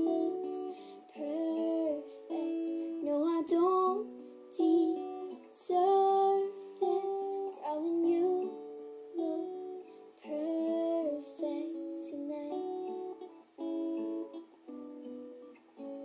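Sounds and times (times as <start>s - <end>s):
acoustic song with plucked guitar: 0.0s - 16.0s.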